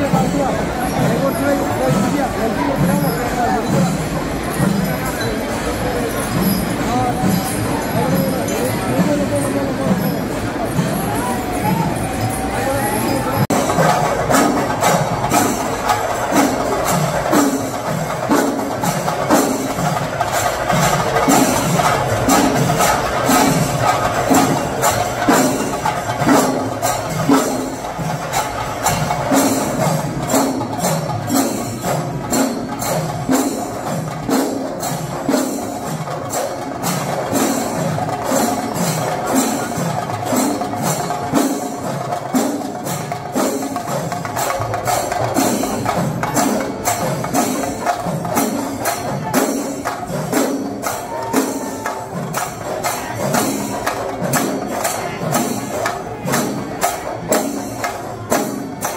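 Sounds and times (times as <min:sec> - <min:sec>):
percussion music: 0:00.0 - 0:58.9.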